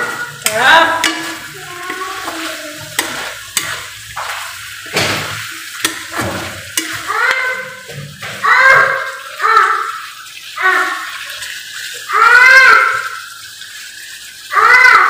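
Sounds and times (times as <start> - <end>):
sauce sizzling: 0.0 - 14.6.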